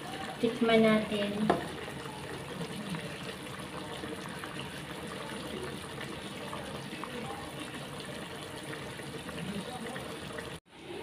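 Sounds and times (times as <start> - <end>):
sauce bubbling in a pot: 0.0 - 11.0.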